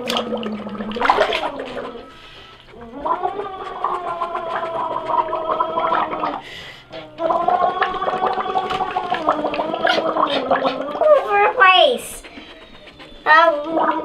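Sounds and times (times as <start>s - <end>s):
child blowing bubbles through straw: 0.0s - 12.3s.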